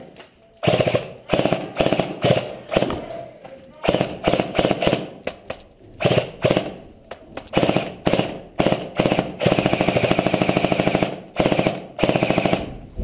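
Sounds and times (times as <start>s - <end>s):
electric airsoft rifle bursts: 0.6s - 3.2s, 3.8s - 6.8s, 7.4s - 12.7s.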